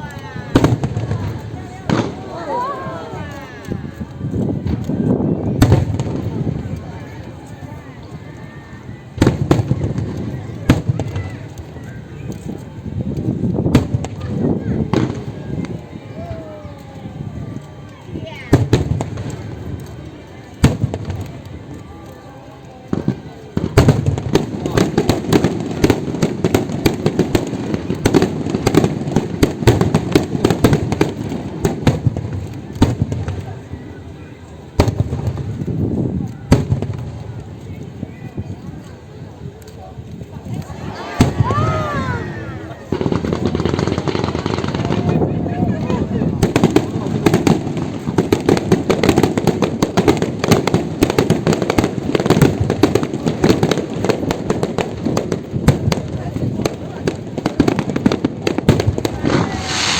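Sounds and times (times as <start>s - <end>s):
continuous rumble: 0.0s - 59.9s
fireworks bangs and crackling pops: 0.0s - 59.9s.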